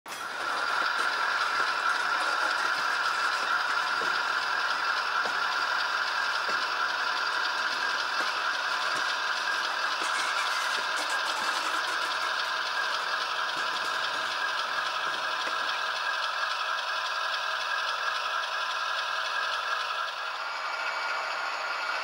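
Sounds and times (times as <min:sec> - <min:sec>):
model train wheels rattling whir: 0:00.1 - 0:22.0.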